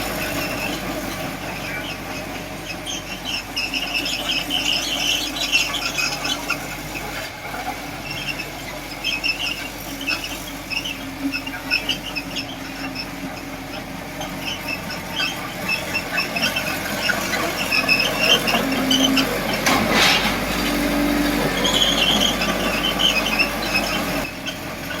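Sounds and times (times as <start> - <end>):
bulldozer engine: 0.0 - 25.0
bulldozer tracks squealing: 0.0 - 25.0.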